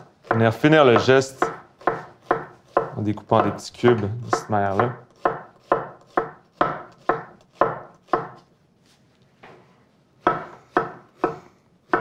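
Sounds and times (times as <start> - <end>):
knife chopping on wooden board: 0.0 - 8.4, 10.2 - 12.0.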